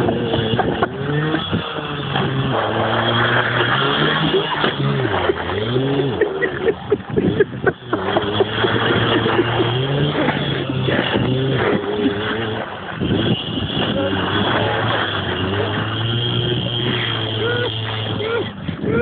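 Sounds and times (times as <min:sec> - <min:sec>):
small motorcycle engine revving: 0:00.0 - 0:19.0.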